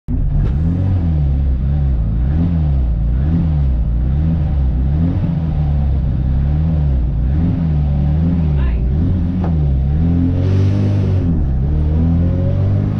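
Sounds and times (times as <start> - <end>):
car engine revving: 0.1 - 12.9.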